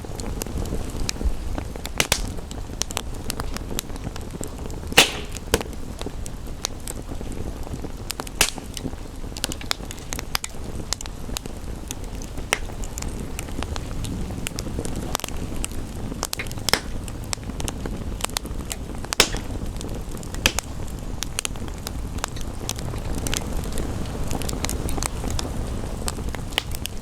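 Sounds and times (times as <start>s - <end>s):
rain rushing: 0.0s - 27.0s
wood fire crackling and popping: 0.0s - 27.0s.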